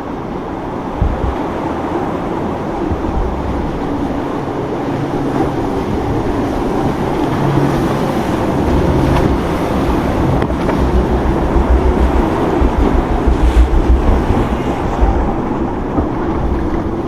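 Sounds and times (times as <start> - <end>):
boat motor running: 0.0 - 17.0
waves and surf: 0.0 - 17.0
wind buffeting microphone: 0.0 - 17.0.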